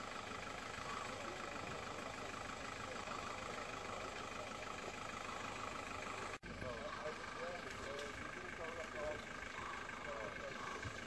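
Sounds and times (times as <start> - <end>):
engine idling: 0.0 - 11.0
outdoor background noise: 0.0 - 11.0.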